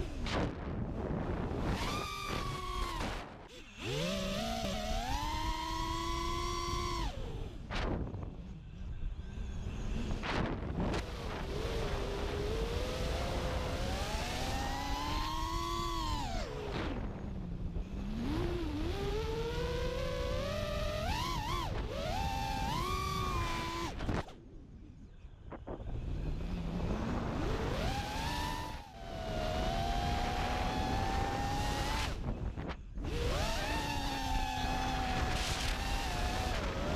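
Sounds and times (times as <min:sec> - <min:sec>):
drone motors whining: 0:00.0 - 0:36.9
wind rumble on microphone: 0:00.0 - 0:36.9.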